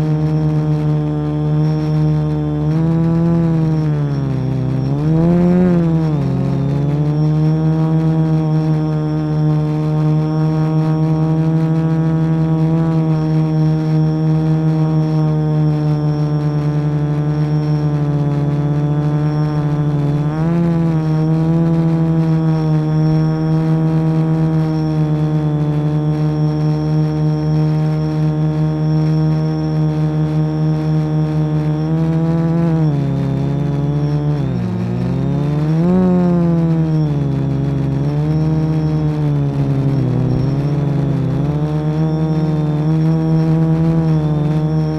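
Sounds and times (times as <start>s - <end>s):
quadcopter motors buzzing: 0.0s - 44.9s.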